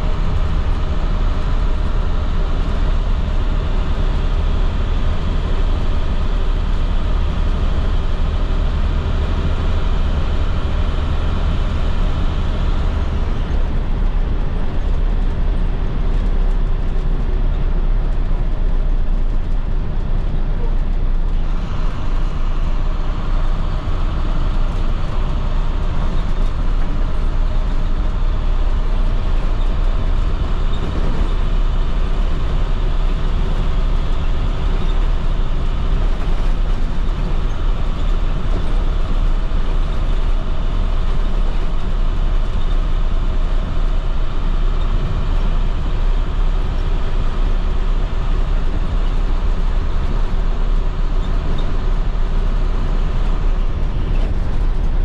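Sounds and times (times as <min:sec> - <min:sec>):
bus diesel engine cruising: 0:00.0 - 0:55.0
road noise: 0:00.0 - 0:55.0.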